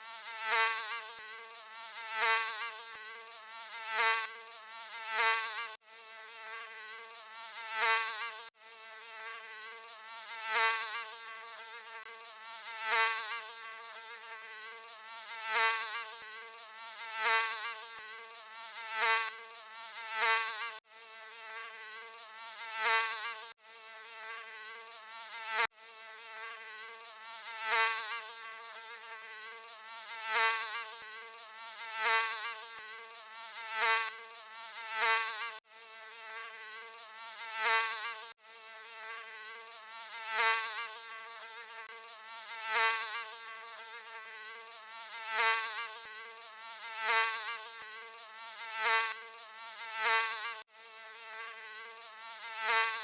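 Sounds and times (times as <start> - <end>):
mosquito buzzing: 0.0 - 53.0.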